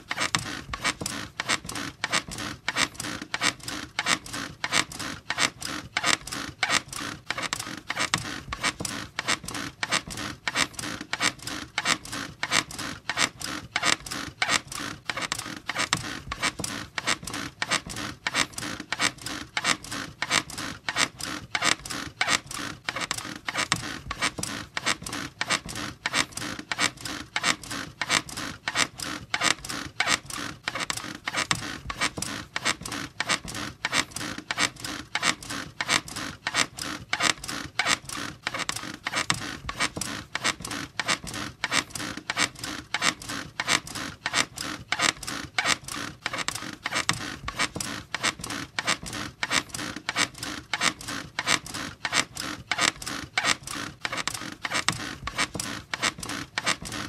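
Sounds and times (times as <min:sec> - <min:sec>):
squeaky bed creaking: 0:00.0 - 0:57.0.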